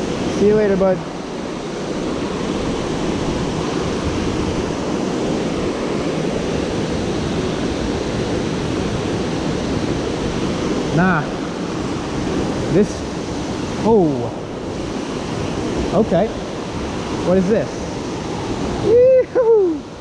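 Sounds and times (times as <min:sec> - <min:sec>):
water rushing over waterfall: 0:00.0 - 0:20.0.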